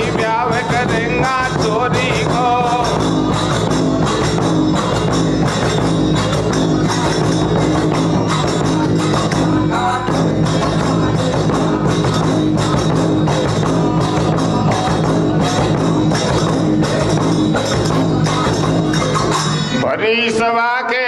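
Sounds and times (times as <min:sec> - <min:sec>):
beating percussion: 0:00.0 - 0:21.0.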